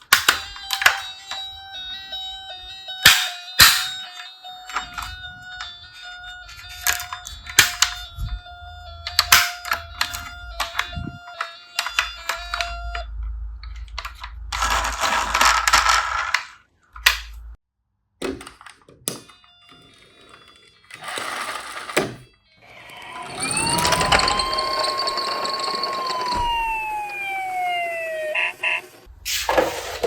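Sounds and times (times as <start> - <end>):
toy cars rattling and clicking: 0.0 - 1.8, 3.0 - 8.2, 9.0 - 17.4, 18.5 - 28.0
electronic toy siren: 0.1 - 15.5, 19.3 - 29.1.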